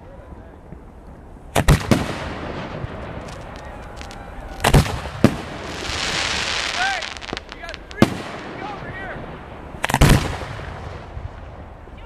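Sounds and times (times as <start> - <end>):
faint crackling: 0.2 - 12.0
firework shells booming: 0.7 - 11.9.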